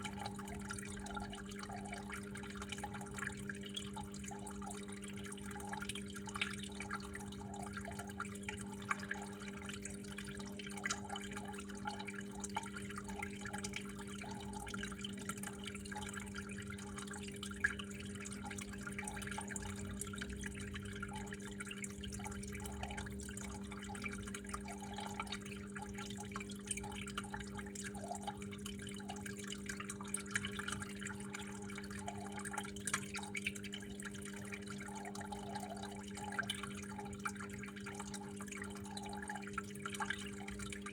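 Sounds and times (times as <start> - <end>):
water flowing and dripping: 0.0 - 40.9.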